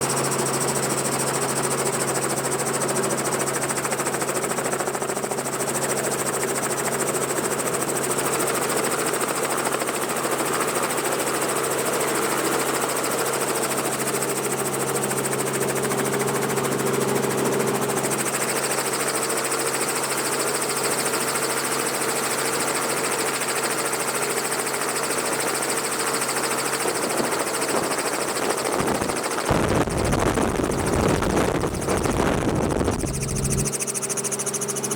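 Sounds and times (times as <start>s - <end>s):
helicopter engine and rotors drone: 0.0s - 34.9s.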